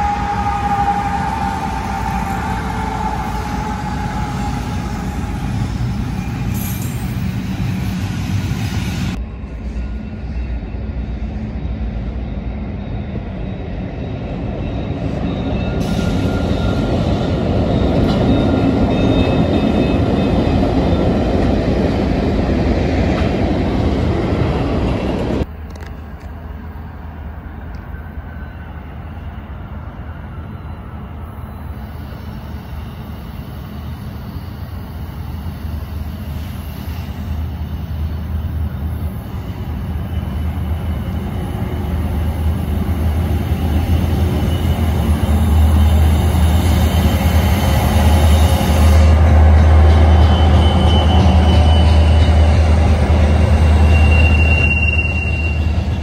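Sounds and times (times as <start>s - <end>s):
diesel locomotives rumbling: 0.0s - 56.0s
train running: 0.0s - 56.0s.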